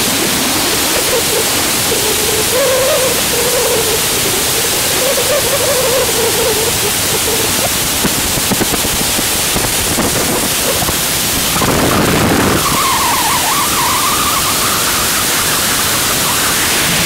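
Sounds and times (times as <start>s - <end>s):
wavering whistle: 0.0s - 7.7s, 10.2s - 17.0s
wind roaring over microphone: 0.0s - 17.0s.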